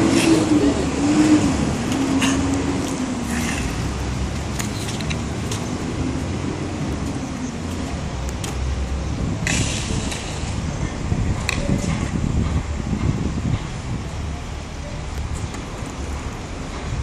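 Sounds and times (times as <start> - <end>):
longboard wheels rolling on concrete: 0.0 - 17.0.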